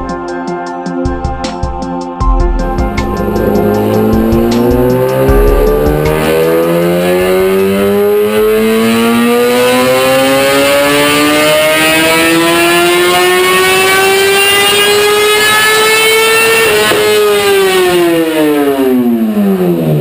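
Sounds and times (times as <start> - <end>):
motorcycle engine revving: 2.6 - 20.0.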